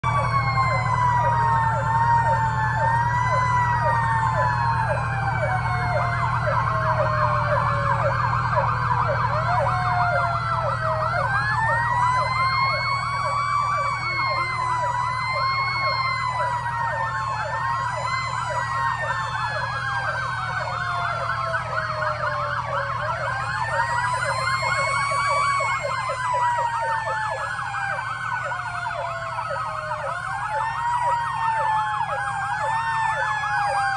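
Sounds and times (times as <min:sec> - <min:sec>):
emergency sirens wailing and yelping: 0:00.0 - 0:33.9
low engine hum: 0:00.0 - 0:33.9.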